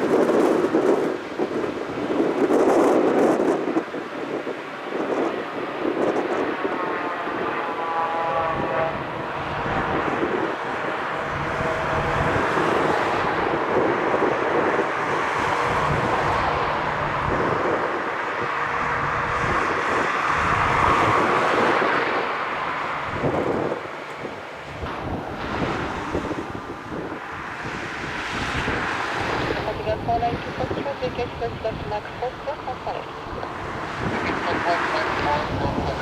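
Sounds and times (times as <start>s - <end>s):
jet engines rushing: 0.0s - 36.0s
wind on microphone: 0.0s - 36.0s.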